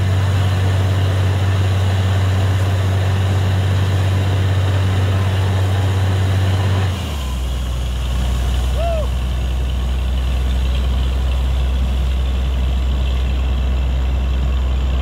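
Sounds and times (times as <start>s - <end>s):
water and mud hissing: 0.0s - 14.9s
drilling rig engine drone: 0.0s - 15.0s.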